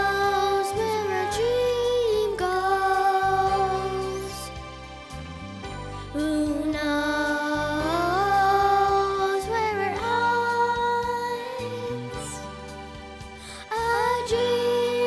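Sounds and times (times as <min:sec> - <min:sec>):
person singing slow melody: 0:00.0 - 0:15.0
steady musical accompaniment: 0:00.0 - 0:15.0.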